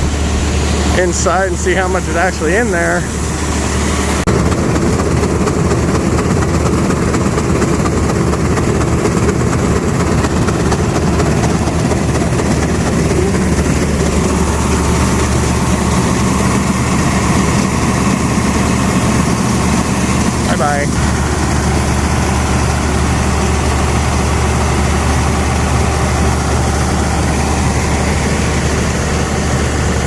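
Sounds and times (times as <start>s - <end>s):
grain auger running: 0.0s - 30.0s
tractor engine hum: 0.0s - 30.0s.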